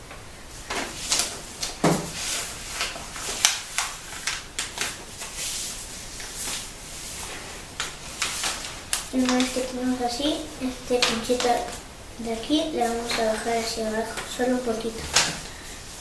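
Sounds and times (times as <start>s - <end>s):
paper being folded: 0.6s - 16.0s.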